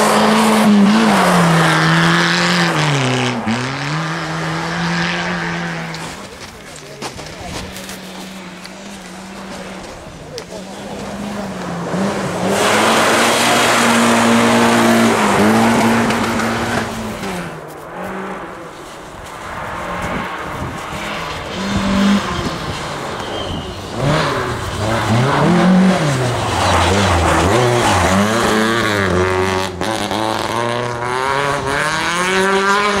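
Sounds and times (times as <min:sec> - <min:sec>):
rally car engine at full throttle: 0:00.0 - 0:33.0.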